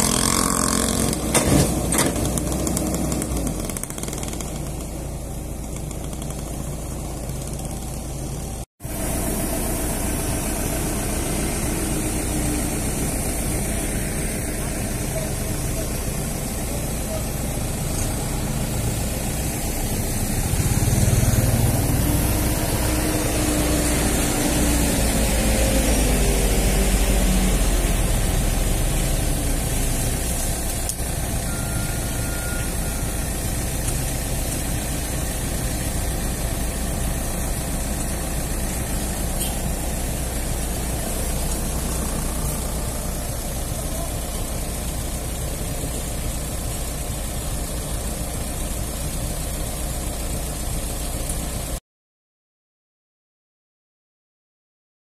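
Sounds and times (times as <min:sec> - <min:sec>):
mini excavator diesel engine: 0:00.0 - 0:51.8.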